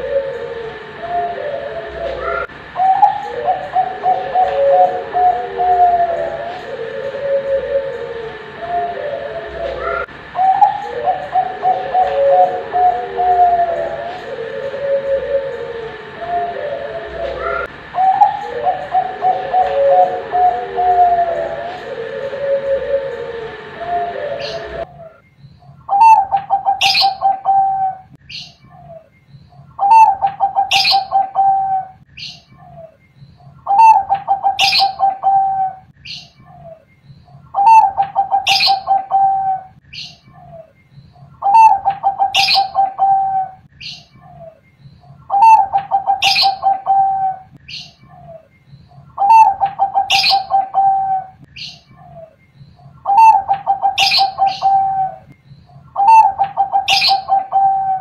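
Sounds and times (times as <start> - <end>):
dove cooing: 0.0 - 25.2, 25.9 - 58.0.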